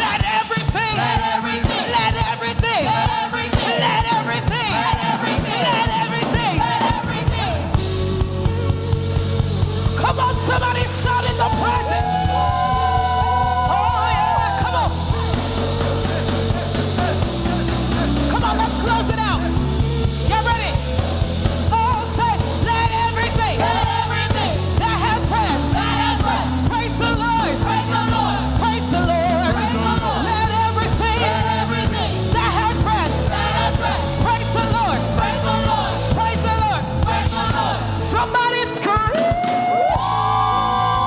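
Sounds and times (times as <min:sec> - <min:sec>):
gospel band playing: 0:00.0 - 0:41.0.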